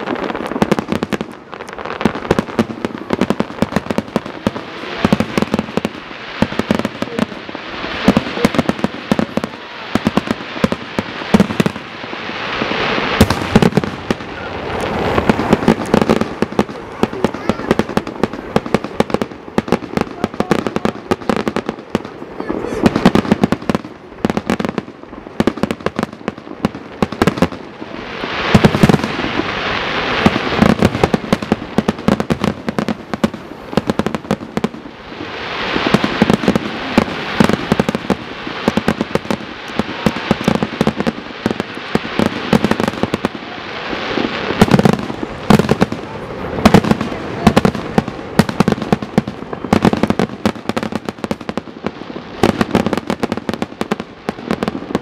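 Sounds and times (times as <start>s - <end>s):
fireworks bursts and crackling: 0.0s - 55.0s.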